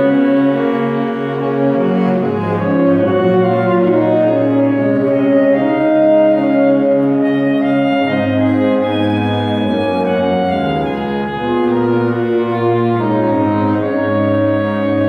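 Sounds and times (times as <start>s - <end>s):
saxophone ensemble playing chords: 0.0s - 15.0s.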